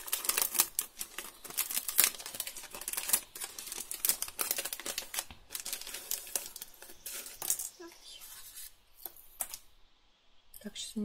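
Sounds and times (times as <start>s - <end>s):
packet crinkling and clicking: 0.0s - 7.9s, 8.6s - 9.7s.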